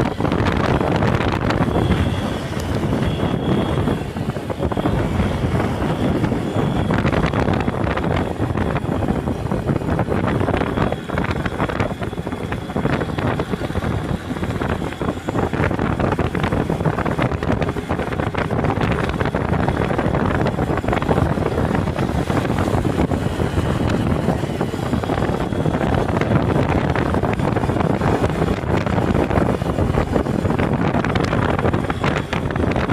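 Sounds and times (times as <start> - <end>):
motorcycle engine: 0.0 - 32.9
road noise: 0.0 - 32.9
wind buffeting microphone: 0.0 - 32.9.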